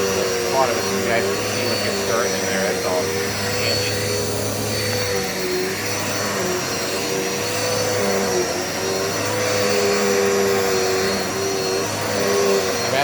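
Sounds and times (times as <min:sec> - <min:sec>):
vacuum cleaner motor hum: 0:00.0 - 0:13.0.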